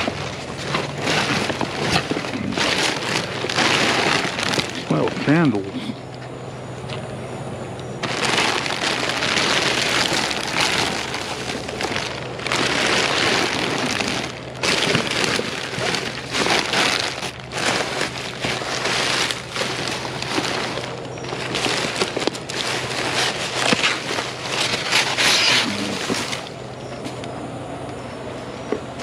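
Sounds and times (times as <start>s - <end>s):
plastic and cardboard crinkling: 0.0s - 5.7s, 8.0s - 27.3s.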